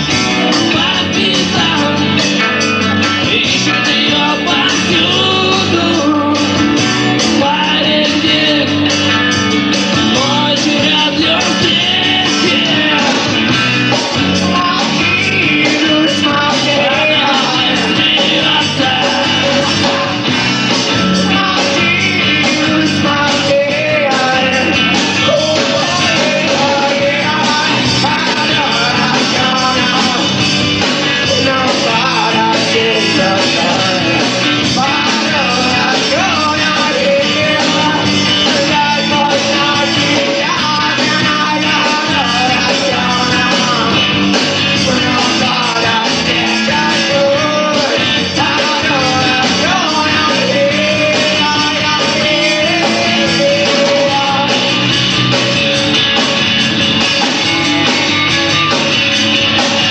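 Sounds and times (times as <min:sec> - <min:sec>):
person singing: 0:00.0 - 0:56.3
rock band playing live: 0:00.0 - 0:59.9.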